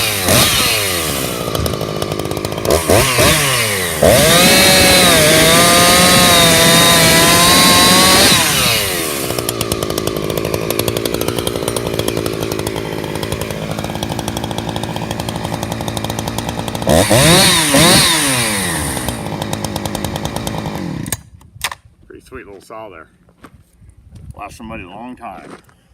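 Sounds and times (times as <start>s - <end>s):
chainsaw idling: 0.0s - 21.2s
chainsaw cutting wood: 0.0s - 21.4s.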